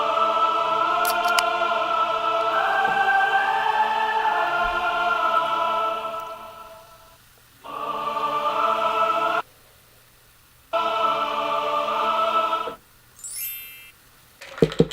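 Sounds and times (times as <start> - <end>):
choir singing long held notes: 0.0 - 9.4, 10.7 - 13.9.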